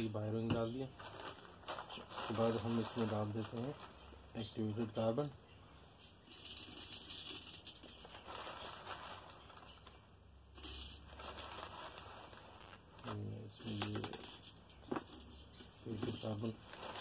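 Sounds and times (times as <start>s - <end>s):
plastic bag rustling: 0.0s - 5.3s, 6.3s - 17.0s
granules pouring: 1.0s - 5.2s, 6.3s - 17.0s.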